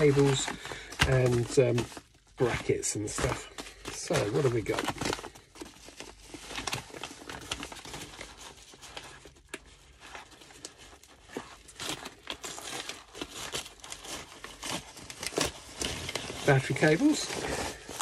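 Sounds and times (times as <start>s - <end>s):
plastic bag tearing: 0.0s - 18.0s
plastic bags crinkling: 0.0s - 18.0s.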